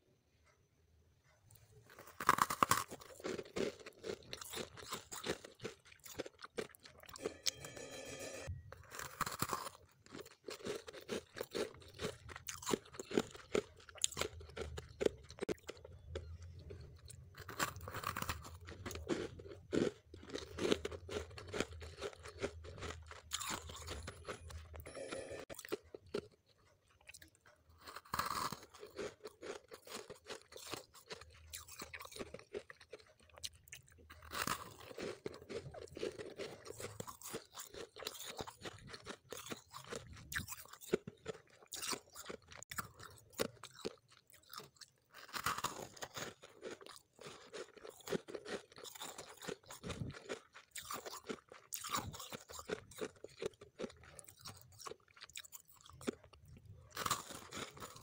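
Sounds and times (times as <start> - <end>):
chewing icy crunches: 1.8 - 7.6, 8.7 - 58.0.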